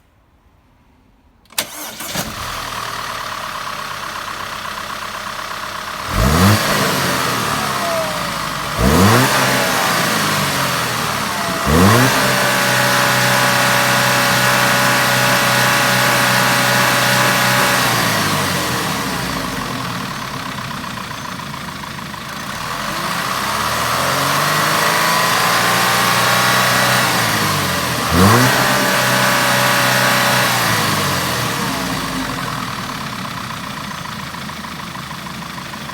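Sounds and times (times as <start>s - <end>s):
car engine starting and revving: 1.5s - 35.9s.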